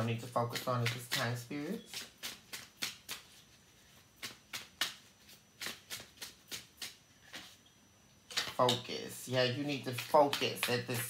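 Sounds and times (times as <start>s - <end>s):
cards being shuffled: 0.2s - 7.6s, 8.3s - 8.8s, 9.5s - 11.0s.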